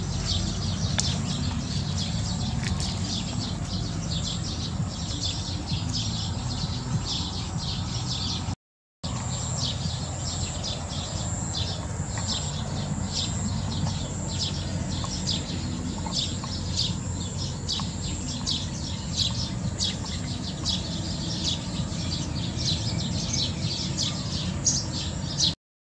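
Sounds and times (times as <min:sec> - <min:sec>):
small birds chirping: 0:00.0 - 0:25.6.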